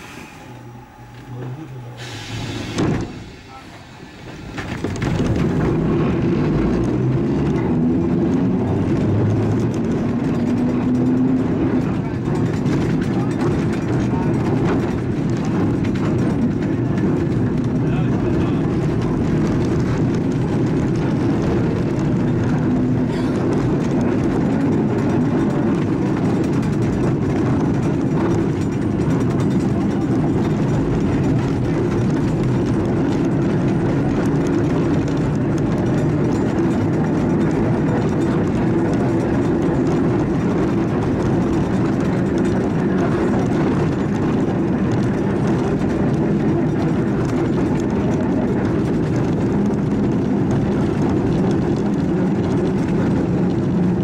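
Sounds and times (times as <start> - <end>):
tram wheels running on rail: 0.0 - 54.0.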